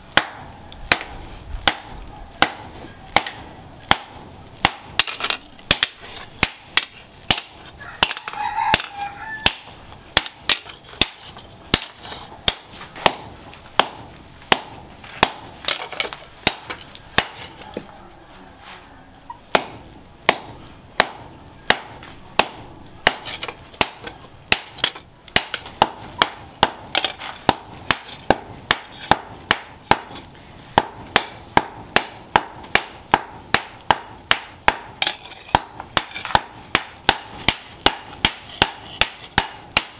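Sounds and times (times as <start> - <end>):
hammer striking hot steel: 0.1 - 17.9, 19.5 - 39.9.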